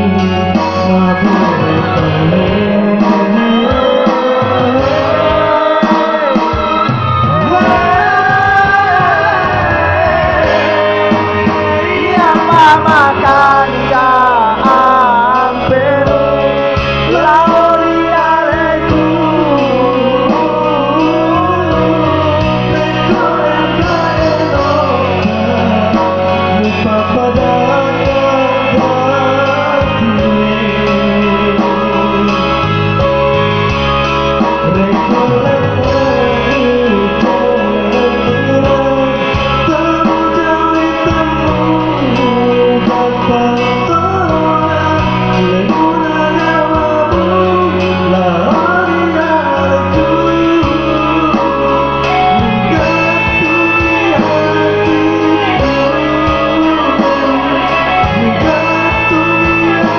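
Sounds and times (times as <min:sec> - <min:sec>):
guitar backing music: 0:00.0 - 0:59.9
man singing: 0:00.0 - 0:59.9.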